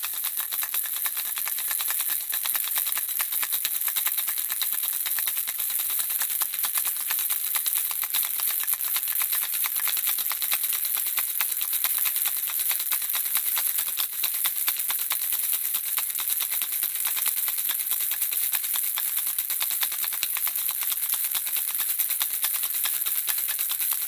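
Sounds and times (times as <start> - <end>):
baby rattle shaken: 0.0 - 24.0.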